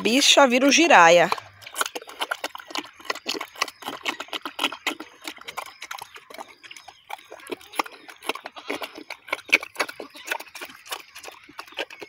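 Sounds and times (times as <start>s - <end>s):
pig chewing smacks: 0.0s - 12.0s.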